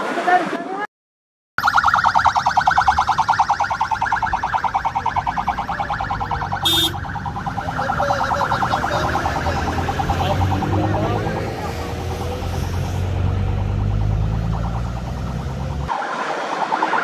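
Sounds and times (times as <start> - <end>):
siren warbling: 1.6 - 17.0
vehicle engines rumbling: 1.8 - 16.7.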